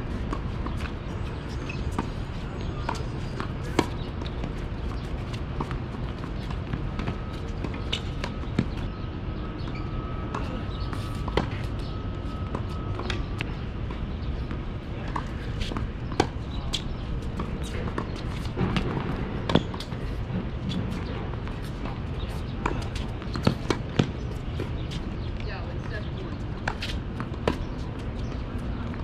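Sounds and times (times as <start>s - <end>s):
tennis ball bouncing: 1.7s - 8.9s, 9.6s - 29.0s.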